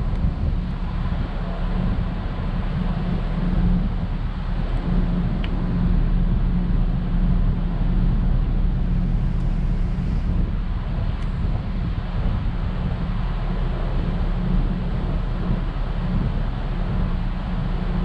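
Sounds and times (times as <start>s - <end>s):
ship engines droning: 0.0s - 18.0s
wind on microphone: 0.0s - 18.0s.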